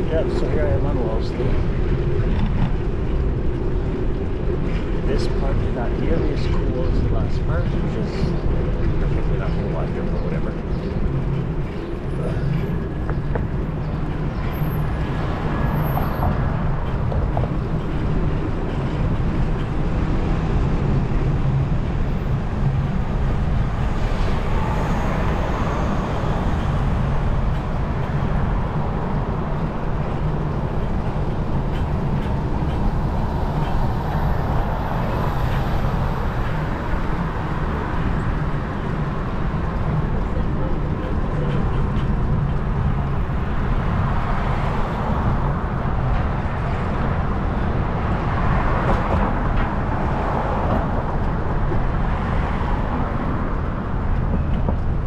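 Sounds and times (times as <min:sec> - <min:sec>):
city street traffic: 0:00.0 - 0:55.0
wind rumble on microphone: 0:00.0 - 0:55.0.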